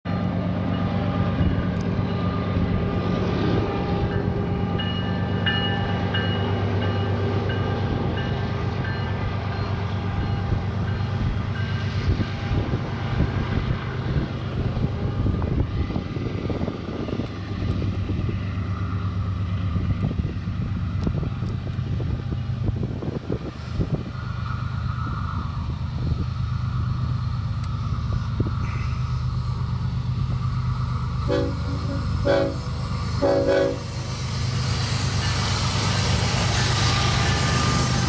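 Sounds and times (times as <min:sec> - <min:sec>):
crackling rumble of train: 0:00.1 - 0:38.0
locomotive engines droning: 0:00.1 - 0:38.0.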